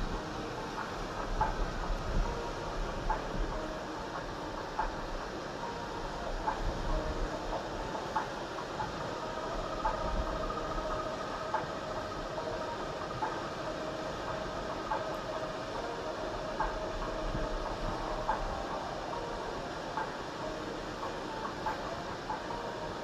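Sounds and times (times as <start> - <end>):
faint two-pitched mechanical hum: 0.0 - 23.0
light ticks: 0.0 - 23.0
sea waves rushing along ship: 0.0 - 23.0.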